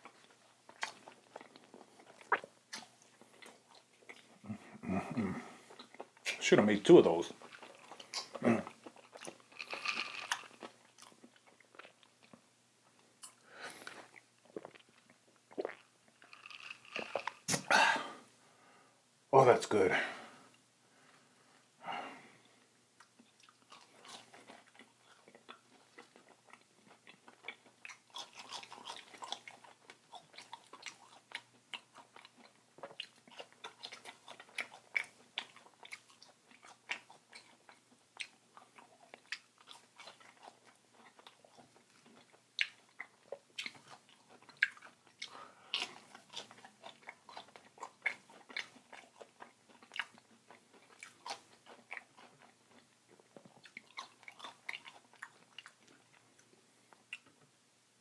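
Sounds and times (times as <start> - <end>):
man chewing food: 0.0 - 6.4, 7.1 - 18.6, 20.3 - 57.6.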